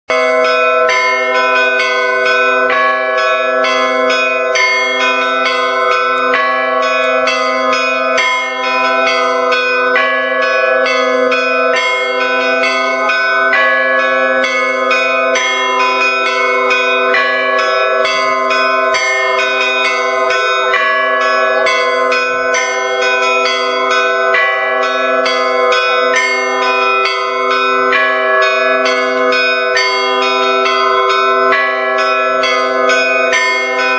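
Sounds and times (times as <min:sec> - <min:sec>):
low church bell: 0:00.1 - 0:33.9
small bells striking quickly: 0:00.1 - 0:33.9.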